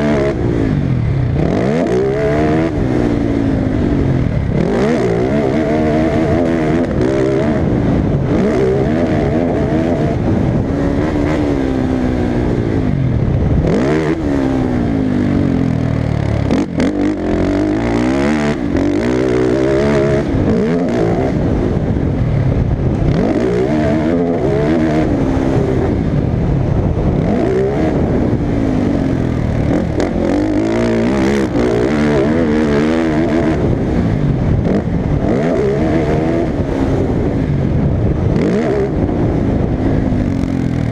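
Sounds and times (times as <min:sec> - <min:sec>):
racing engines revving: 0:00.0 - 0:40.9.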